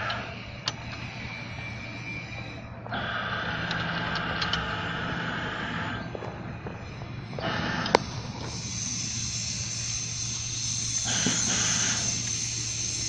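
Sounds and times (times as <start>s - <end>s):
hoist motor whining: 0.0s - 13.0s
low machine hum: 0.0s - 13.0s.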